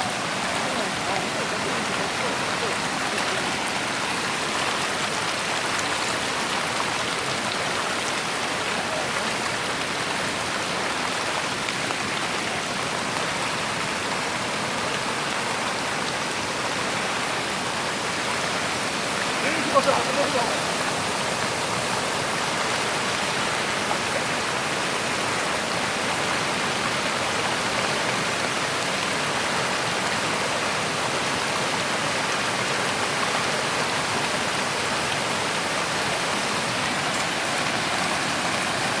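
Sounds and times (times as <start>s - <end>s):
floodwater roaring: 0.0s - 39.0s.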